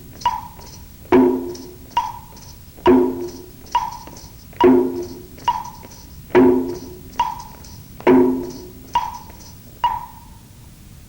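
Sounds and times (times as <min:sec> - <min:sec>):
deep percussion strikes: 0:00.0 - 0:10.4
wood block knocks: 0:00.0 - 0:10.4.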